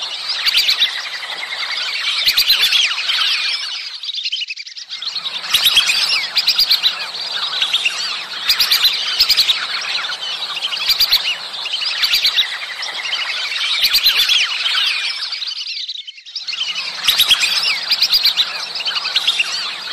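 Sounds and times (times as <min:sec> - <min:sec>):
whistling ducks calling: 0:00.0 - 0:19.9.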